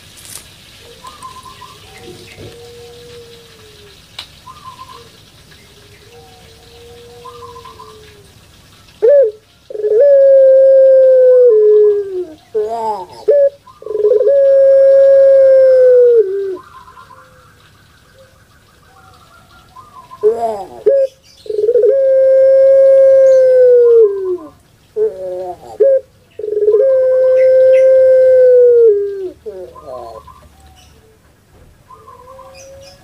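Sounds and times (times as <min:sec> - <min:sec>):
dove cooing: 0:00.8 - 0:33.0.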